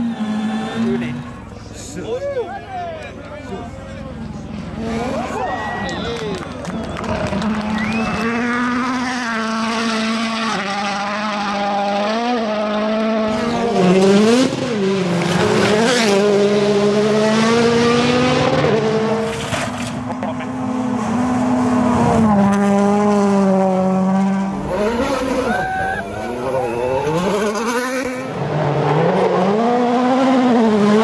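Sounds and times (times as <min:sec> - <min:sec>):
rally car engine under load: 0:00.0 - 0:05.4, 0:06.8 - 0:31.0.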